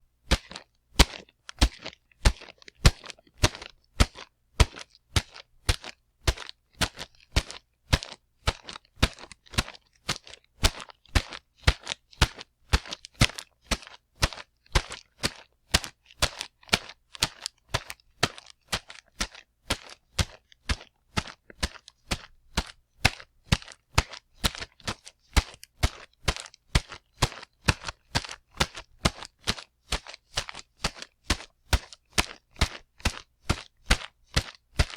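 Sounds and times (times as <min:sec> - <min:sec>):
running footsteps: 0:00.3 - 0:12.9, 0:17.2 - 0:34.9.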